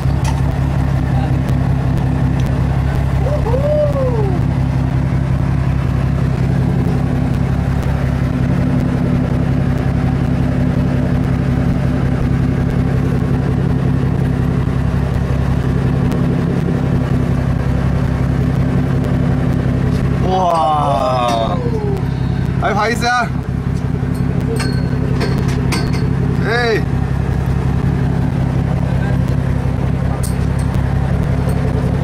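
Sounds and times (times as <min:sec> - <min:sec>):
boat engine humming: 0:00.0 - 0:32.0.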